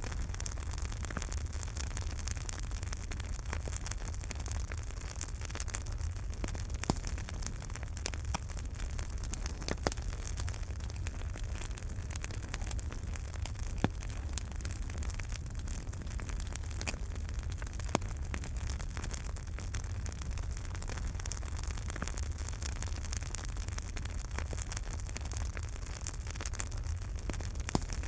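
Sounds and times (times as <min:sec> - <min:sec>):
low rumble of fire: 0:00.0 - 0:28.0
wood fire crackling: 0:00.0 - 0:28.0.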